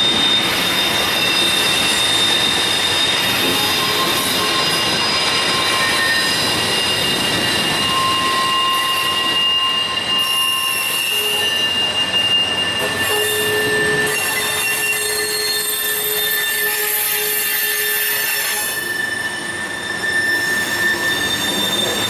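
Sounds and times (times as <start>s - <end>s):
train rolling rumble: 0.0s - 22.0s
train wheels squealing: 0.0s - 22.0s.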